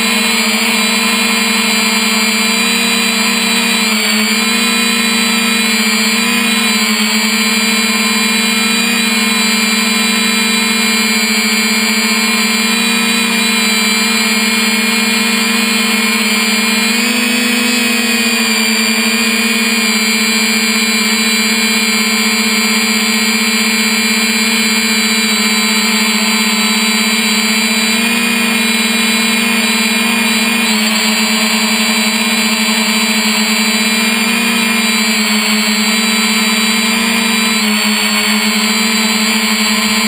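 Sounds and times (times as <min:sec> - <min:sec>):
drone propellers buzzing: 0:00.0 - 0:40.0.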